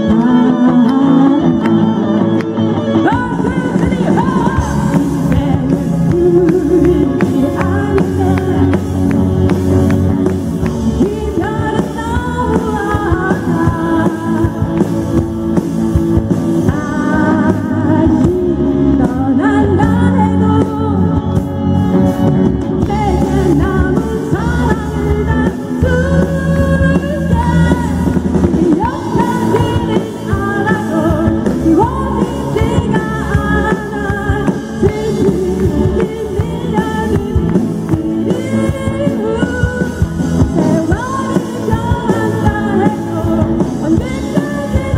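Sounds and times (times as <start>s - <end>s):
woman singing lead vocal: 0.0s - 15.3s, 16.4s - 44.9s
live rock band playing: 0.0s - 44.9s.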